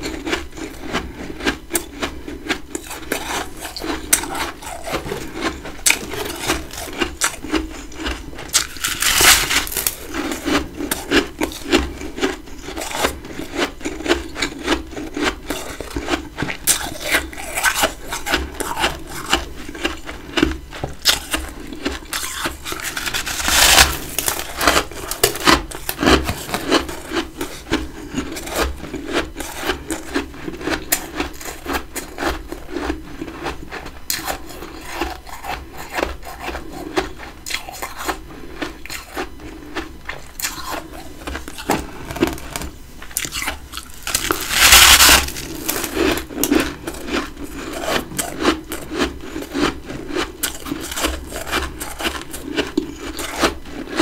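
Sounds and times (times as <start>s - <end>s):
chewing and crunching frost: 0.0s - 54.0s.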